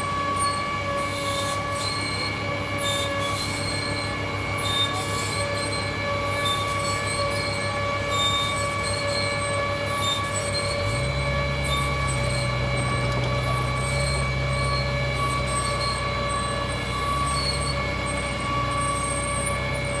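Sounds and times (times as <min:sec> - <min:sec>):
diesel engines running: 0:00.0 - 0:20.0
high hydraulic whine: 0:00.0 - 0:20.0.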